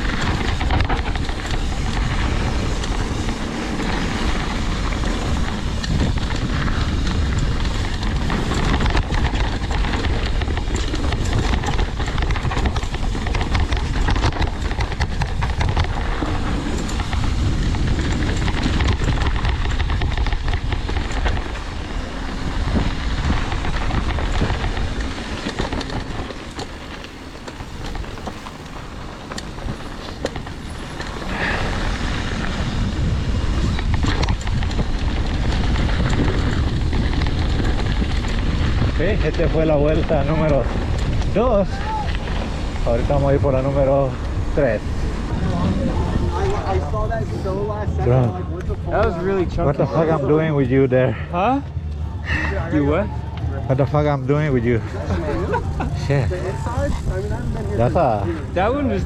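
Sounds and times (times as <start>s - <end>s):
bike rattling over rocks: 0.0s - 51.1s, 51.7s - 59.0s
wind rush: 0.0s - 59.0s.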